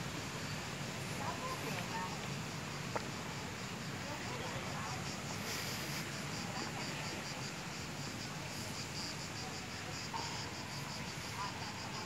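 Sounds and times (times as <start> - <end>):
insects chirping: 0.0 - 12.0
soft outdoor hiss: 0.0 - 12.0.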